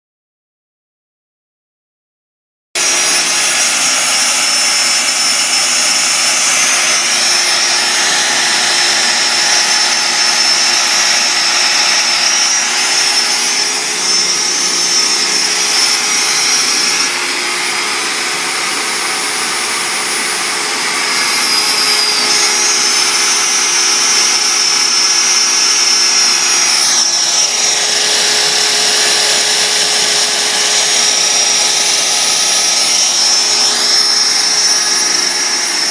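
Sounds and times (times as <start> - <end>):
router spindle high whine: 2.8 - 35.9.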